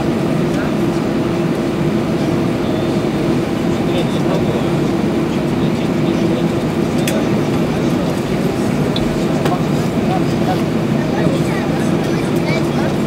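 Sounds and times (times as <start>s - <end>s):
aircraft cabin hum: 0.0s - 13.0s.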